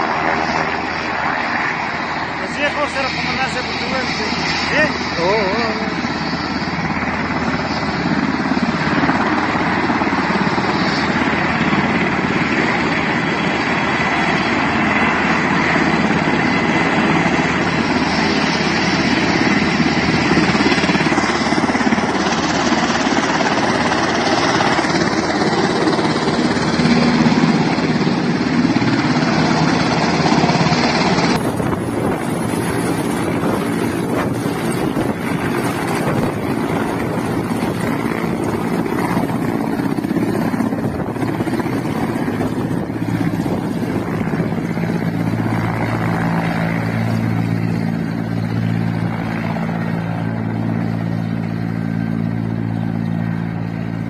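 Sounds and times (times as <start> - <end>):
helicopter turbines and rotor: 0.0 - 54.0.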